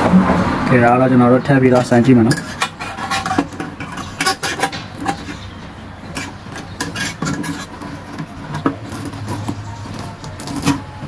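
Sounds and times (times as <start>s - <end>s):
plastic rubbing: 1.8s - 11.0s.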